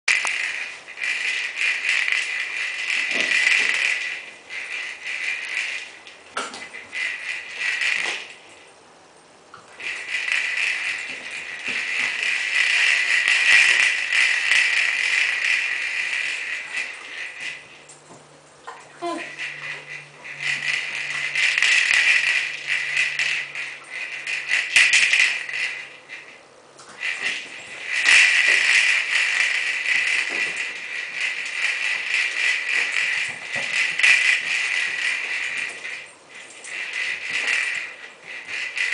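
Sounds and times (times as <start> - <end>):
ball toy rattling: 0.0 - 8.8, 9.6 - 38.9.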